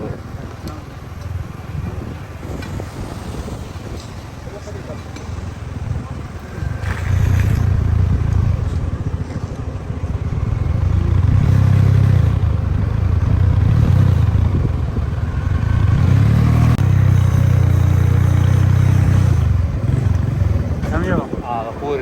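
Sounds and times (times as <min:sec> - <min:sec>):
vehicle engine drone: 0:00.0 - 0:22.0.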